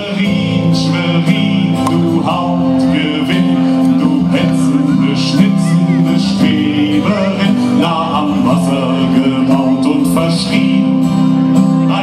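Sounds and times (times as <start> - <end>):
live band with guitar chords: 0.0 - 12.0.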